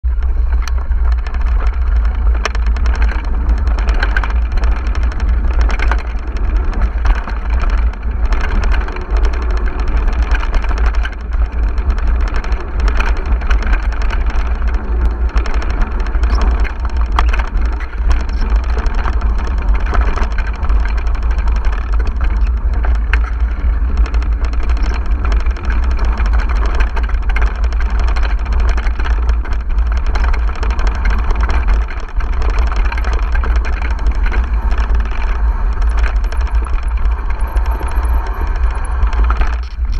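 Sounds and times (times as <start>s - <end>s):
bike frame and chain rattling: 0.0s - 39.9s
low wind rumble on microphone: 0.0s - 39.9s.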